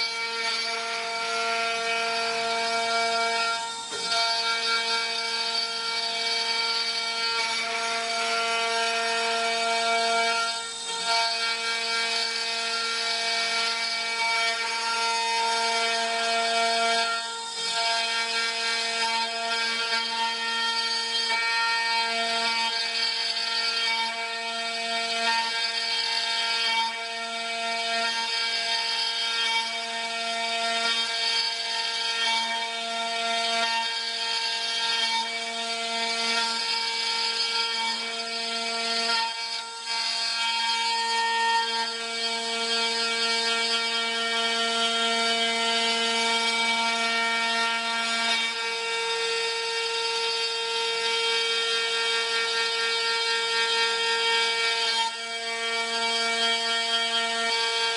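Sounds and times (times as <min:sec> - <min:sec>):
router spindle whine: 0:00.0 - 0:57.9.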